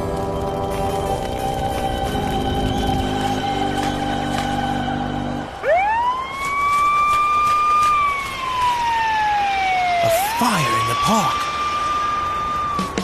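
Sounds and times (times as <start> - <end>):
siren wailing: 0.4 - 13.0.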